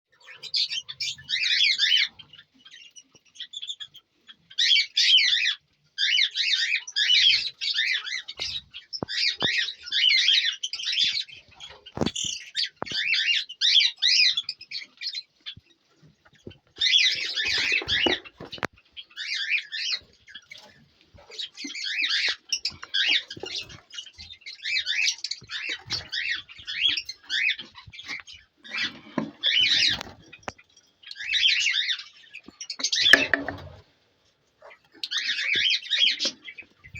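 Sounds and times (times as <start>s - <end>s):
cage birds chirping and twittering: 0.1s - 36.9s.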